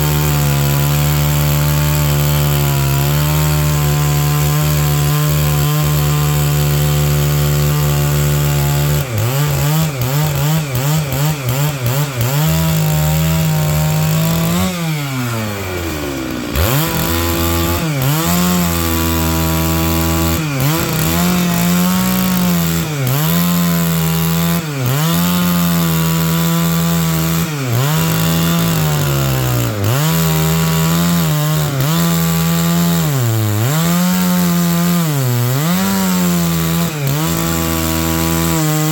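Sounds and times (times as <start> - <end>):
chainsaw cutting logs: 0.0 - 38.9.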